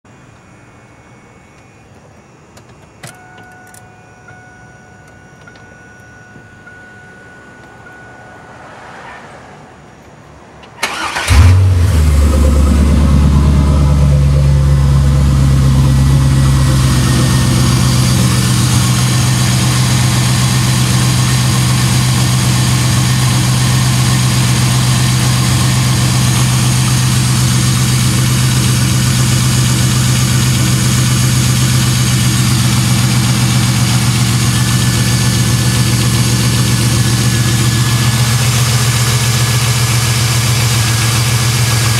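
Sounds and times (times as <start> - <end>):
car engine cranking and idling: 2.6 - 41.9.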